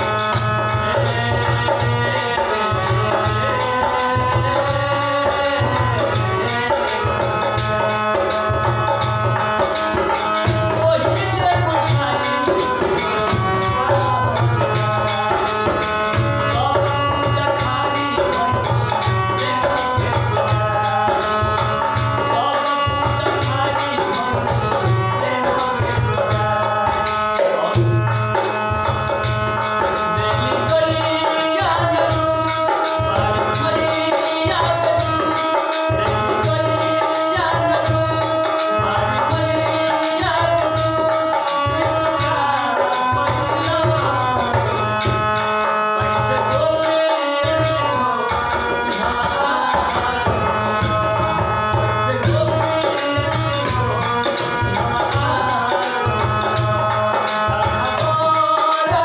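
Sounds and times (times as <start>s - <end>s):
harmonium chords: 0.0s - 59.0s
man singing devotional song: 0.0s - 59.0s.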